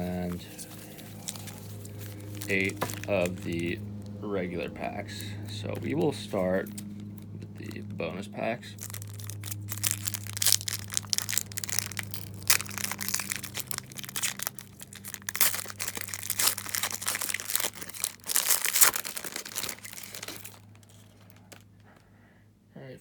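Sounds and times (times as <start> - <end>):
foil wrapper crinkling: 0.0 - 22.1.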